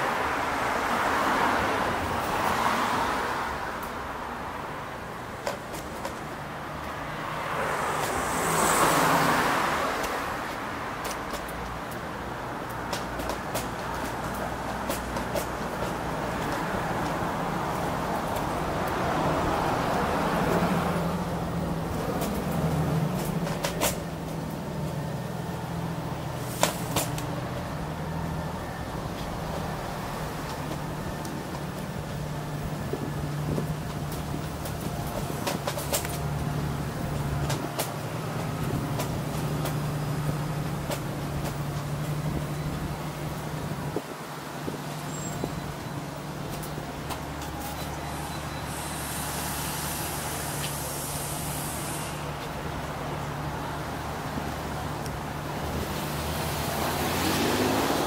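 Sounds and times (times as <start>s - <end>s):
vehicle engine hum and tyre noise: 0.0s - 58.0s.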